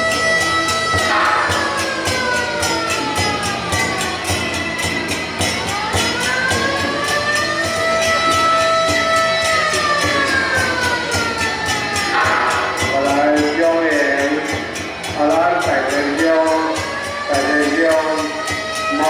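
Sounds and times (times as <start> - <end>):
air-raid siren wailing: 0.0 - 19.0
procession percussion beat: 0.0 - 19.0.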